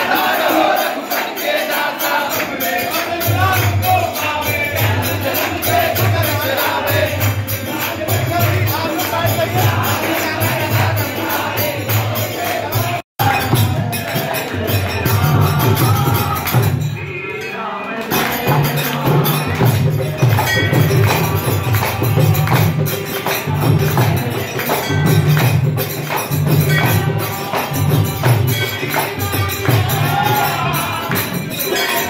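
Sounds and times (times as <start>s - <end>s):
dholak drum beating: 0.0s - 17.2s, 18.1s - 32.0s
metallic jingling percussion: 0.0s - 32.0s
voices singing into microphone: 0.0s - 32.0s.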